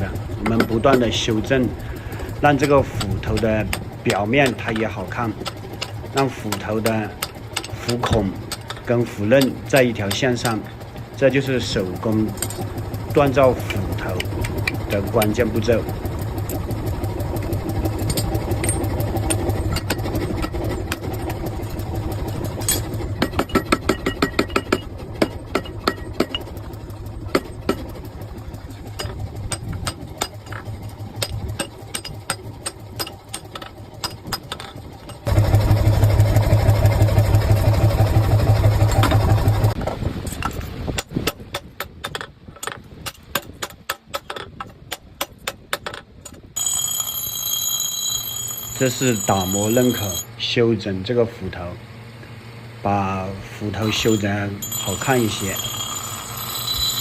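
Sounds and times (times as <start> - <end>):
steady machine hum: 0.0 - 43.9, 44.8 - 57.0.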